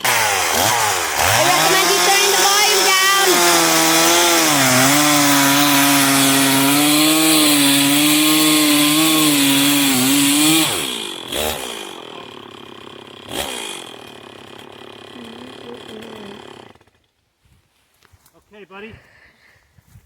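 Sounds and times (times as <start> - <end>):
chainsaw cutting log: 0.0 - 17.2.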